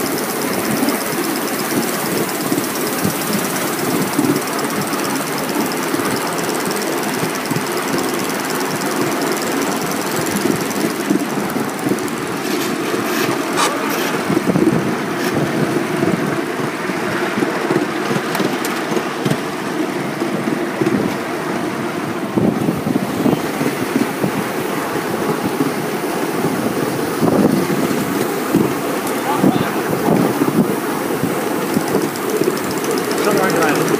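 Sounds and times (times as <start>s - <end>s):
steam locomotive chuffing: 0.0s - 33.9s
train rattling on rails: 0.0s - 33.9s.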